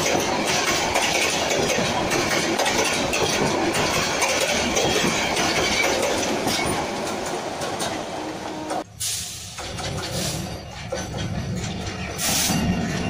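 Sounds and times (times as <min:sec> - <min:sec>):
rail joint clicks: 0:00.0 - 0:13.0
train wheels rushing on rails: 0:00.0 - 0:13.0.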